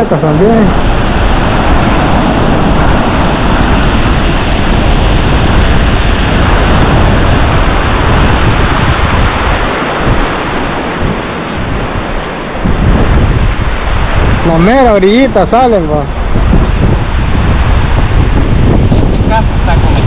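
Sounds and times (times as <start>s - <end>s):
surf breaking on beach: 0.0s - 20.0s
wind noise on microphone: 0.0s - 20.0s.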